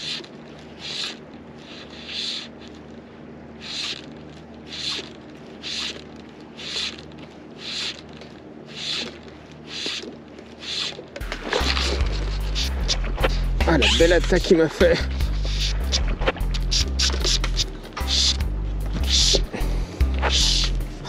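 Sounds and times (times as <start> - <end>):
fly line rubbing swish: 0.0 - 2.8, 3.6 - 21.0.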